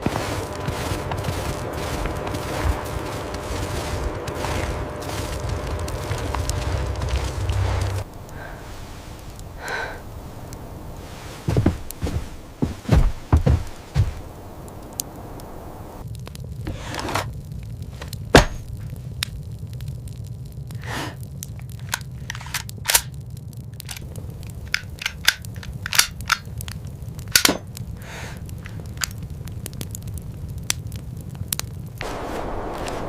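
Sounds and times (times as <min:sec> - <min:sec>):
sharp cracks and pops: 0:00.0 - 0:12.2, 0:13.0 - 0:33.0
steady low rumble: 0:00.0 - 0:33.0.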